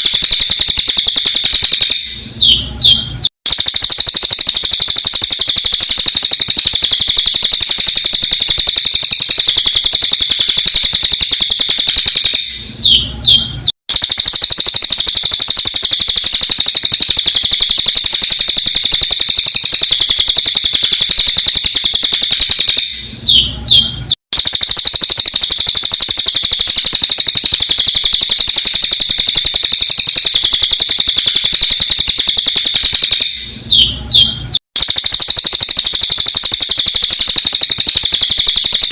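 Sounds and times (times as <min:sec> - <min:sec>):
rapid high-pitched bird chirps: 0:00.0 - 0:38.9.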